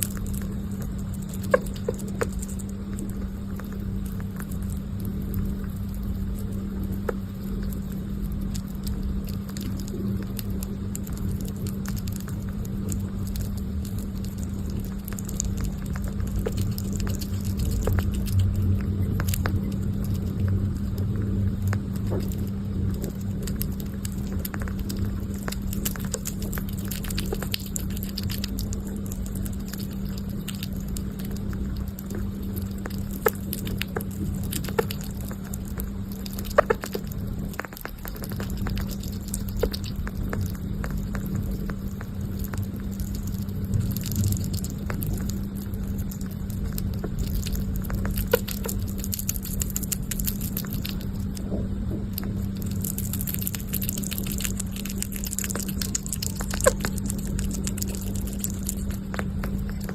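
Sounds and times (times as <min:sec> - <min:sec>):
small animal chewing: 0:00.0 - 0:59.9
steady low hum: 0:00.0 - 0:59.9.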